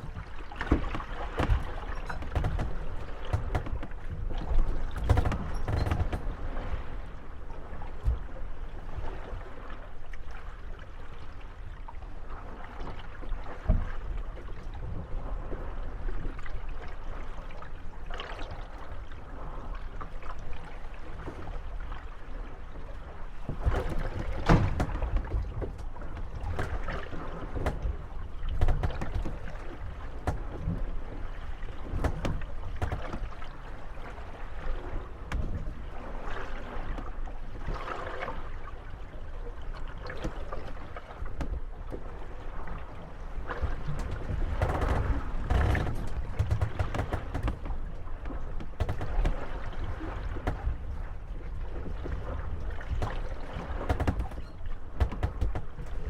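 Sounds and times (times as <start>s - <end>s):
wooden boat hulls bumping and creaking: 0.0s - 10.4s, 12.6s - 56.0s
wind: 0.0s - 56.0s.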